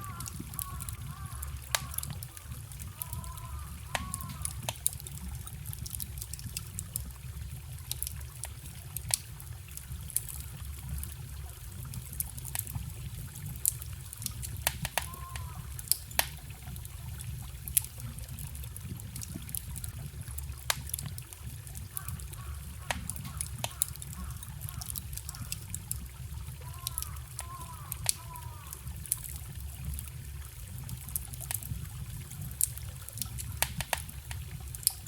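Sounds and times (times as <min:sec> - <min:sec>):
forest stream trickling: 0:00.0 - 0:35.0
wood fire crackling: 0:00.0 - 0:35.0.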